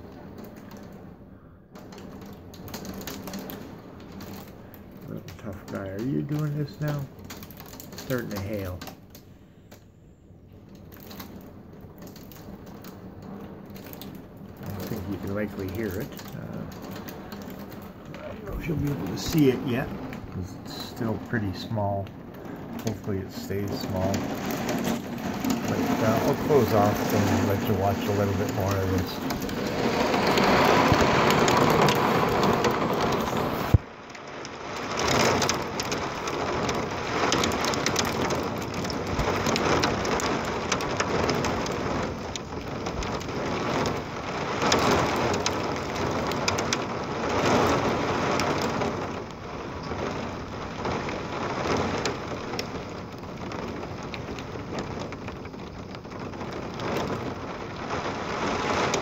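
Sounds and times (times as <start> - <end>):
rain and hail on a window: 0.0 - 59.0.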